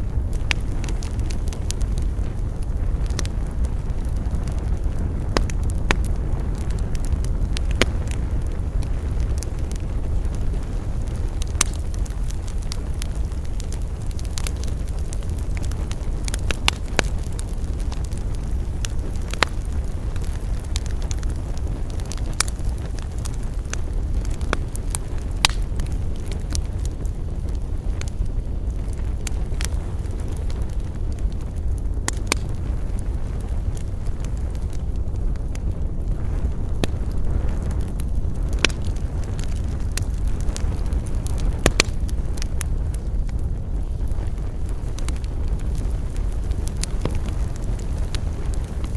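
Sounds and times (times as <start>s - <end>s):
campfire crackling and popping: 0.0s - 48.9s
fire low rumble: 0.0s - 48.9s.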